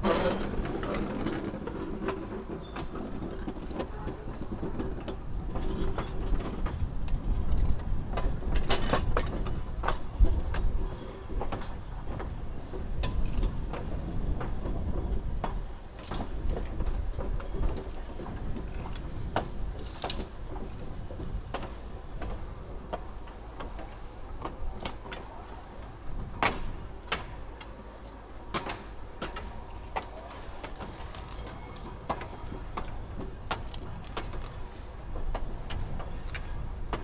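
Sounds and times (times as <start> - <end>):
train rumble: 0.0 - 37.0
wheels clicking over rail joints: 0.0 - 37.0.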